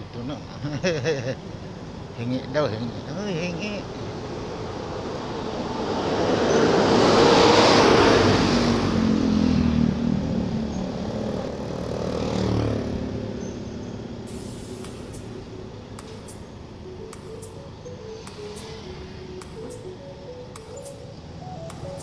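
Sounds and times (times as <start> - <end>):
bus passing: 0.0 - 22.0
wind and tyre rush: 2.8 - 22.0.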